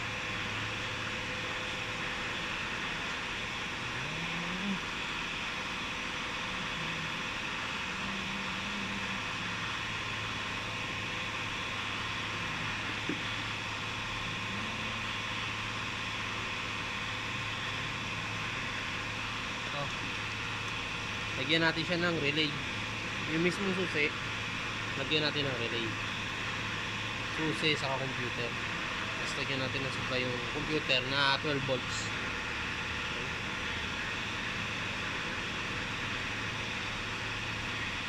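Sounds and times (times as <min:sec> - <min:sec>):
constant hiss: 0:00.0 - 0:38.0
low hum: 0:00.0 - 0:38.0.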